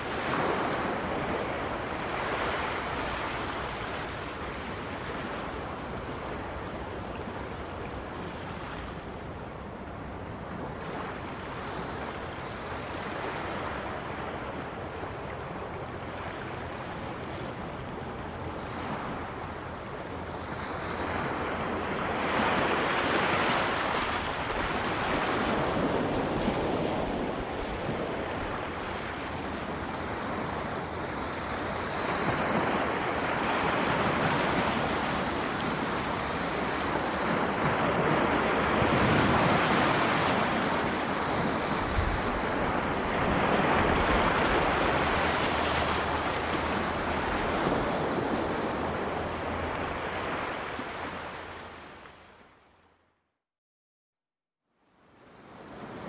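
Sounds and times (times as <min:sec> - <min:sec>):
sea waves breaking on shore: 0:00.0 - 0:52.7.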